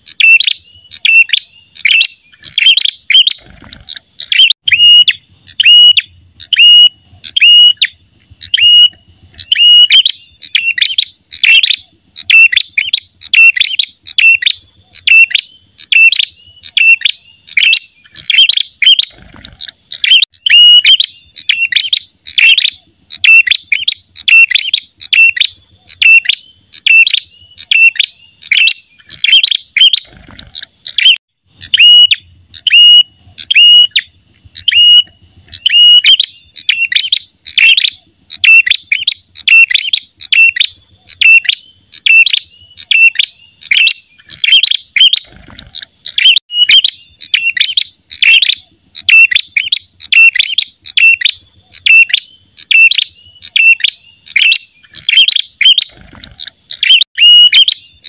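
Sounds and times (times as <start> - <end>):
bird sharp high chirps: 0.0 - 58.0.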